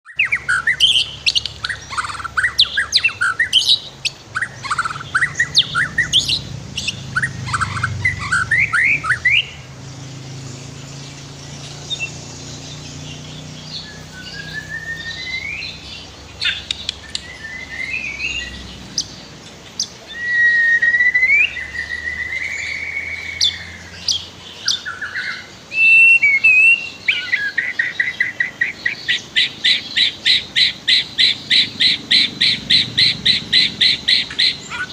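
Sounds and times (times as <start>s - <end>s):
bird singing whistles and trills: 0.1s - 34.9s.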